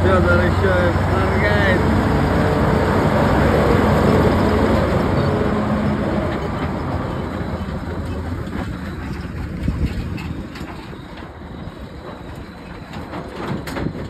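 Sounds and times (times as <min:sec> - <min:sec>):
tractor diesel engine passing: 0:00.0 - 0:14.0
trailers rattling over gravel: 0:00.0 - 0:14.0.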